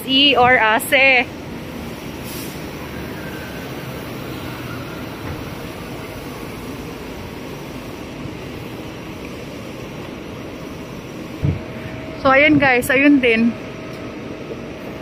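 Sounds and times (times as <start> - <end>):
street traffic hum: 0.0 - 15.0.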